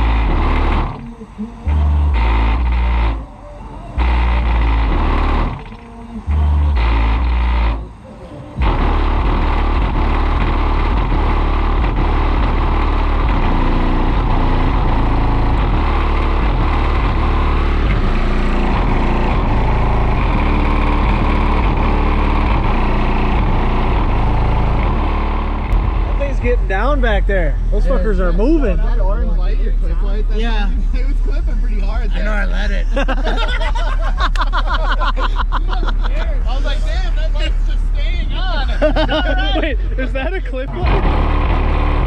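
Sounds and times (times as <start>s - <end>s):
heavy bass from subwoofers: 0.0s - 42.0s.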